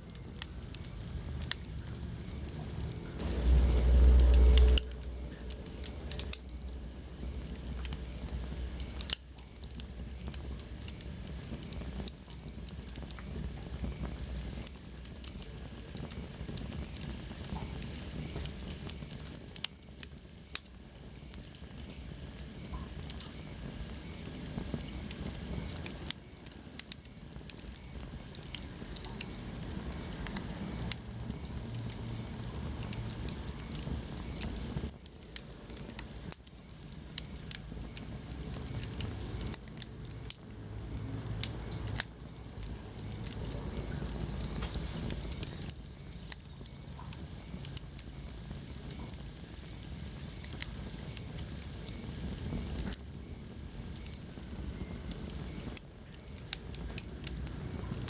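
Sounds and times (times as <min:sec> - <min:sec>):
fire crackling and popping: 0:00.0 - 0:58.0
fire rumbling and hissing: 0:00.0 - 0:58.0.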